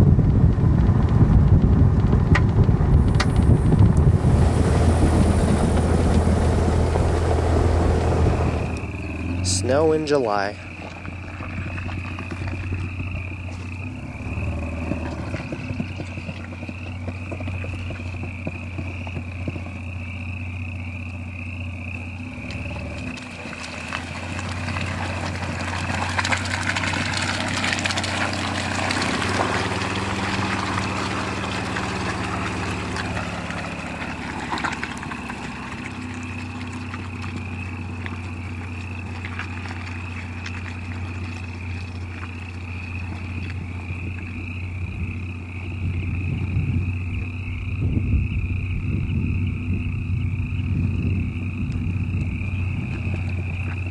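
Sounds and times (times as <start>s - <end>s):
truck engine running: 0.0s - 53.9s
tyres in mud and slush: 2.1s - 47.1s, 50.6s - 53.9s.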